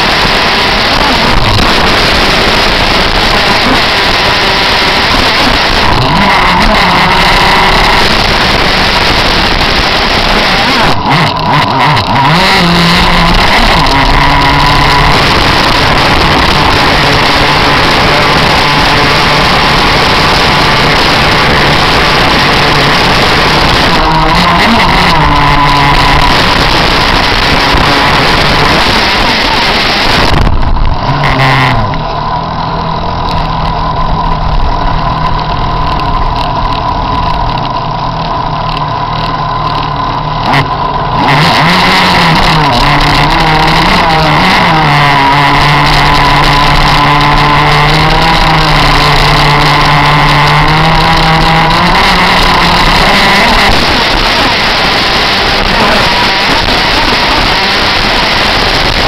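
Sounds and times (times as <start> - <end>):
two-stroke boat engine running hard: 0.0 - 59.0.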